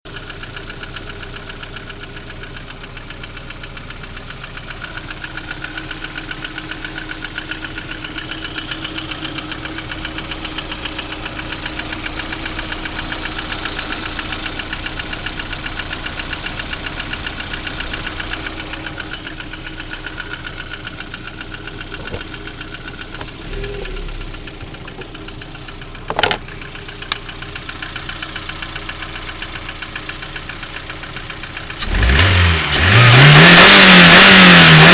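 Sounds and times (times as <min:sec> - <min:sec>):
car engine knocking: 0:00.1 - 0:34.9.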